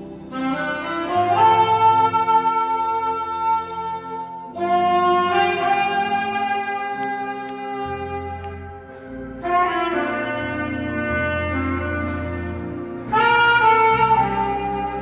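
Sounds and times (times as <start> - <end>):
saxophone slow melody: 0.0 - 15.0.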